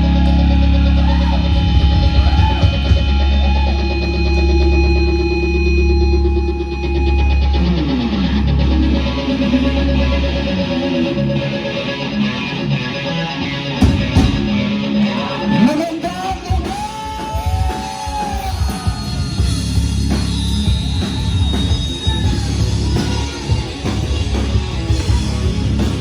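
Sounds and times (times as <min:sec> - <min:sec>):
drums: 0:00.0 - 0:26.0
electric guitar: 0:00.0 - 0:26.0
rock band playing: 0:00.0 - 0:26.0.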